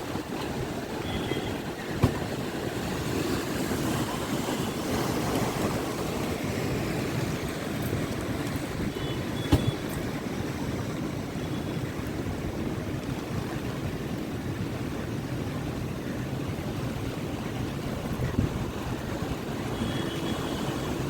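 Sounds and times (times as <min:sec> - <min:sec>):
strong wind: 0:00.0 - 0:21.0
surf rushing: 0:00.0 - 0:21.0.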